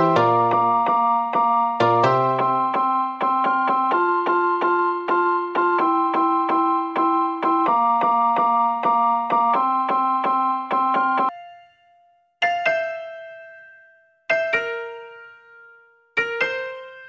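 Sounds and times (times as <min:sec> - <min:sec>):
keyboard chords repeating: 0:00.0 - 0:17.0.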